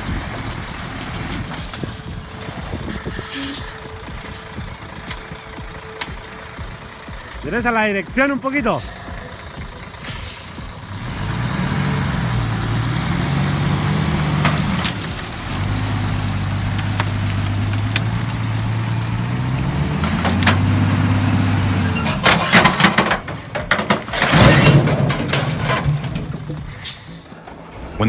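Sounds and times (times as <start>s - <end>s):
truck diesel engine under load: 0.0s - 6.6s, 7.2s - 27.3s.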